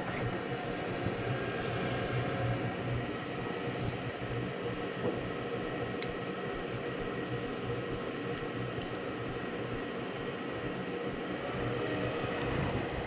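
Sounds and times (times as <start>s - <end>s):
furnace motor hum: 0.0s - 13.0s.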